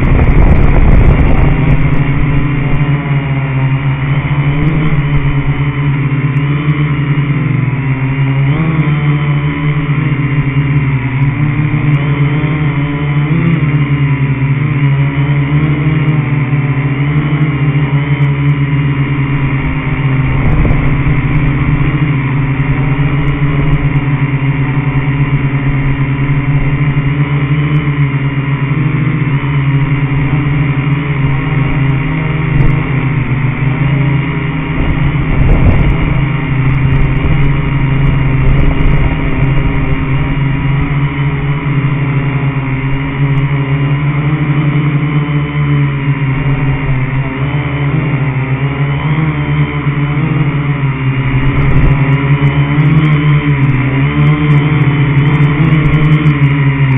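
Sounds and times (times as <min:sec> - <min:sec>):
drone propellers humming: 0:00.0 - 0:56.9.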